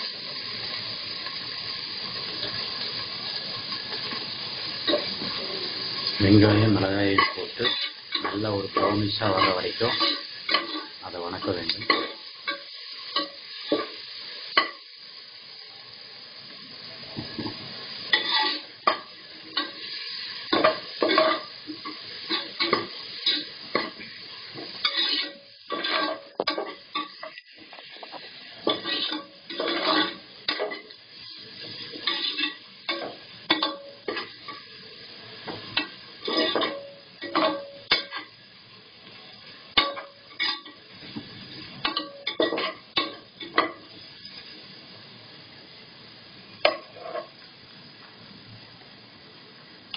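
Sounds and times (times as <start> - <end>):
onions sizzling in hot oil: 0.0 - 49.9.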